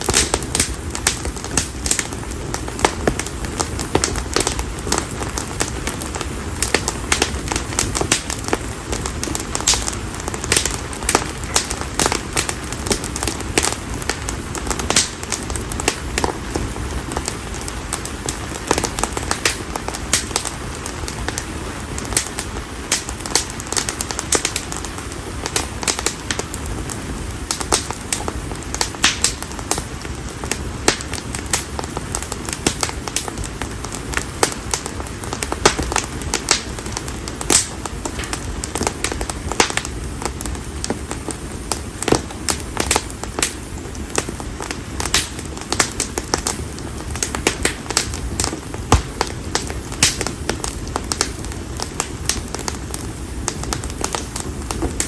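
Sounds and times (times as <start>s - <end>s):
firewood crackling and popping: 0.0s - 55.0s
low rush of flame: 0.0s - 55.0s.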